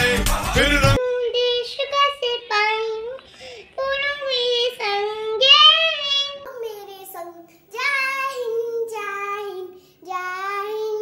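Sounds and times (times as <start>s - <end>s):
boy singing: 0.0s - 3.2s, 3.8s - 11.0s
girl singing: 0.9s - 11.0s.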